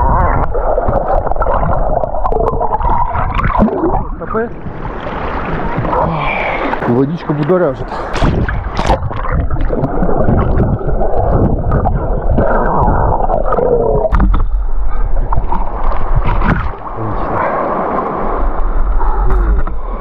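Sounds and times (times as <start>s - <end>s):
muffled underwater gurgling: 0.0s - 20.0s
water sloshing and splashing: 0.0s - 20.0s.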